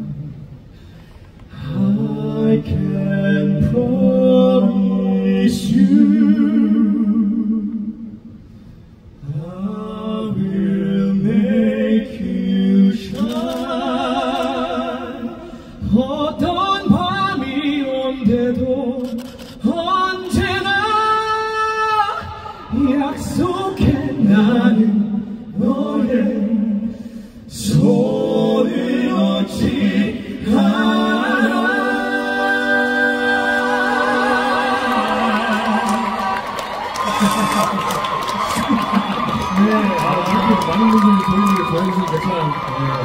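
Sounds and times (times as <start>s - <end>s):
male vocal quartet singing: 1.5s - 8.1s, 9.2s - 39.1s.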